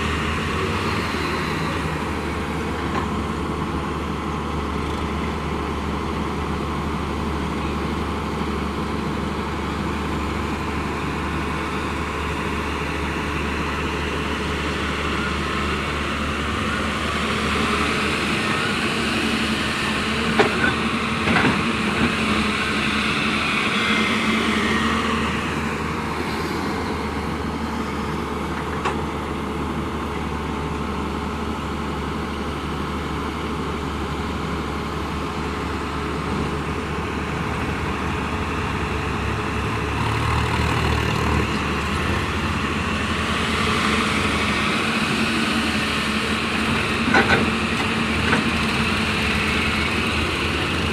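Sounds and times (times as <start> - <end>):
diesel machinery engine running: 0.0 - 50.9.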